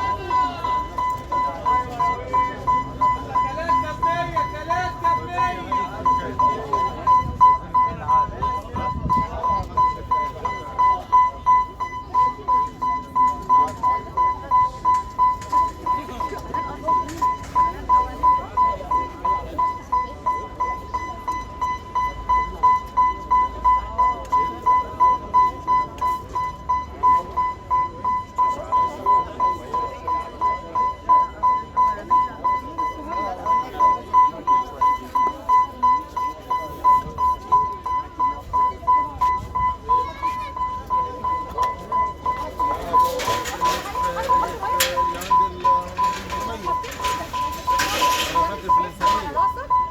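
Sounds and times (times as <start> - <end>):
level-crossing alarm beeping: 0.0 - 49.9
murmuring voices: 0.0 - 49.9.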